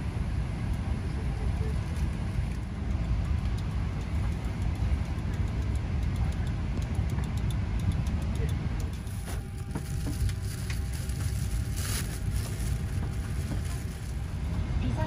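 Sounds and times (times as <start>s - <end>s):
cabin air-conditioning rumble: 0.0s - 15.0s.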